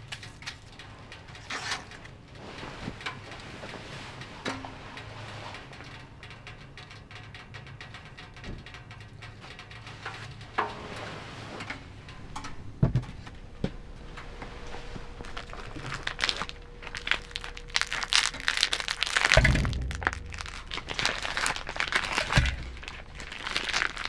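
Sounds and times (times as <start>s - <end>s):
crinkling and rustling: 0.0s - 24.0s.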